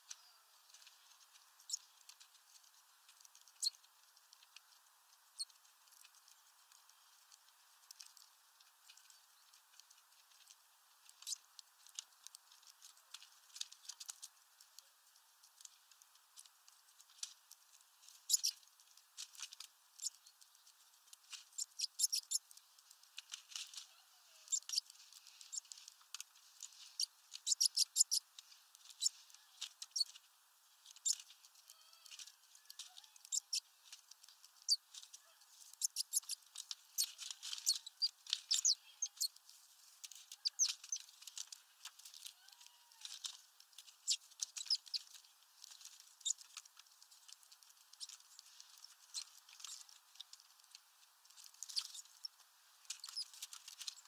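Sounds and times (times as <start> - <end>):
birds pecking at seed ball: 0.0 - 54.0.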